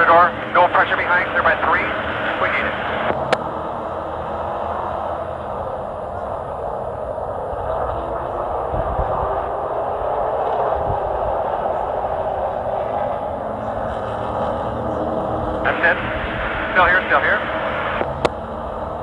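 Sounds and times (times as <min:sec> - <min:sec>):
race truck engine droning: 0:00.0 - 0:19.0.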